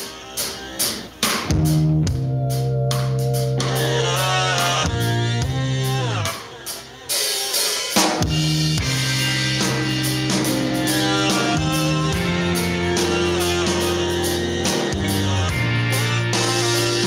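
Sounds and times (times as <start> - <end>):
rock band music: 0.0 - 17.0.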